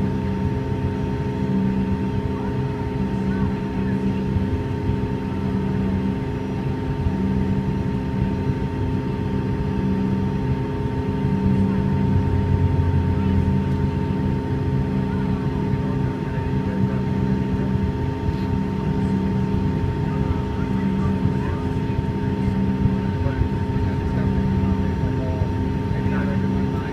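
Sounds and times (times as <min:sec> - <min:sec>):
jet engine hum: 0:00.0 - 0:26.9
mid-pitched engine whine: 0:00.0 - 0:26.9.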